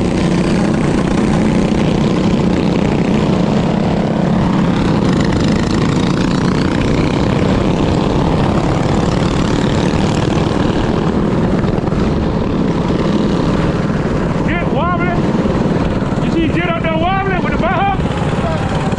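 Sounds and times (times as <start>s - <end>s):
small engine running: 0.0s - 18.9s.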